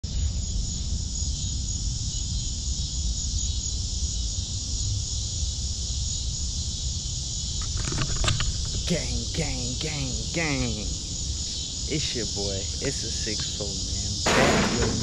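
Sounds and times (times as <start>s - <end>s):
insects shrilling: 2.1s - 15.0s.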